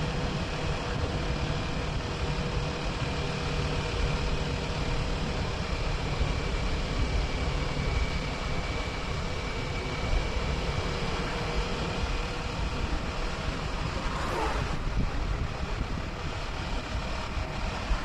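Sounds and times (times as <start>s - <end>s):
motorcycle engine cruising: 0.0s - 18.0s
road noise: 0.0s - 18.0s
wind noise: 0.0s - 18.0s.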